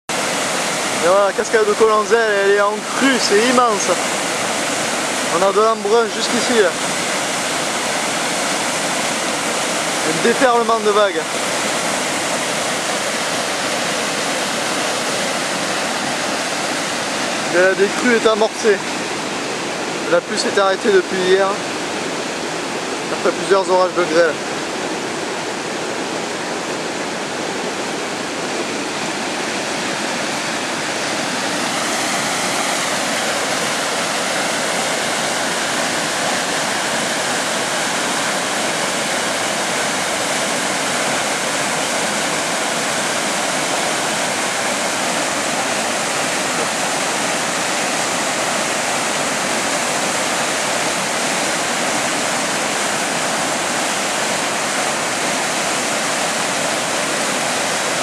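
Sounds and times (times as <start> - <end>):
water rushing over waterfall: 0.1 - 58.0.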